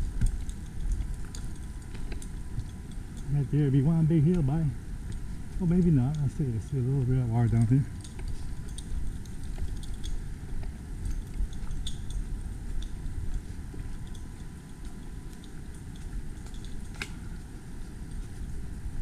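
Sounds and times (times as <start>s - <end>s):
crunching footsteps: 0.0s - 19.0s
wind rumble on microphone: 0.0s - 19.0s.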